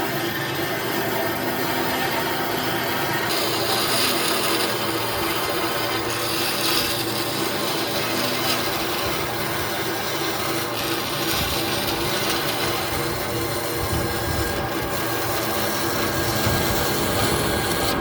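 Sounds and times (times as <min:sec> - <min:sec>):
faint motor hum: 0:00.0 - 0:18.0
power tool abrading wood: 0:03.0 - 0:18.0.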